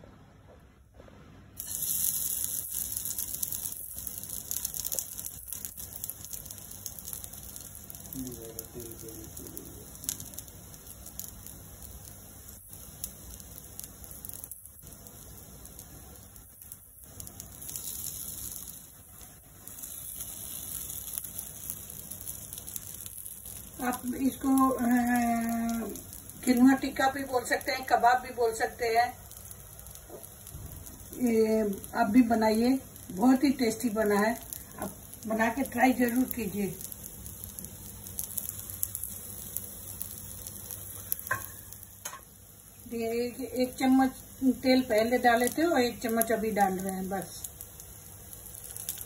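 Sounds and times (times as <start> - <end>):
patties sizzling in oil: 1.5 - 49.0.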